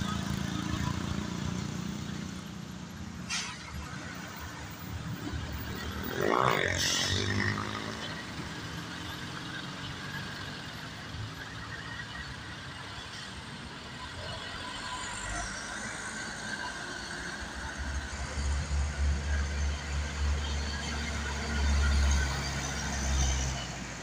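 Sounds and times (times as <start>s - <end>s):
diesel truck engines passing: 0.0s - 24.0s.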